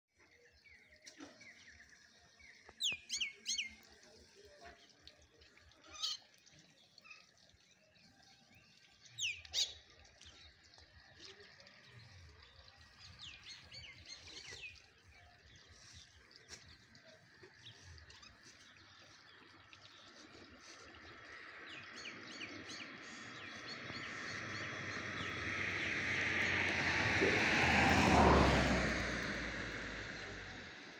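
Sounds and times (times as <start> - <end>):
sparrows chirping: 0.2 - 26.8.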